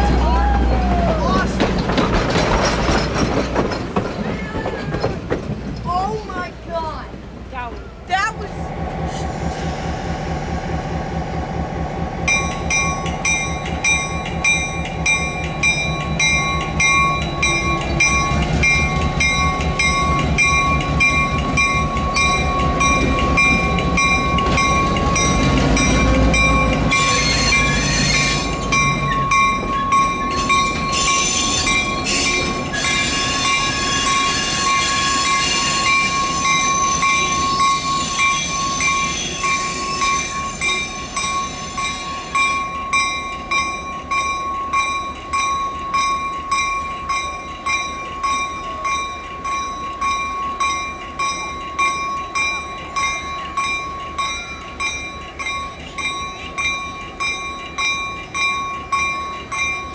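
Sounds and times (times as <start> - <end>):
rail noise: 0.0 - 59.9
steam locomotive running: 0.0 - 59.9.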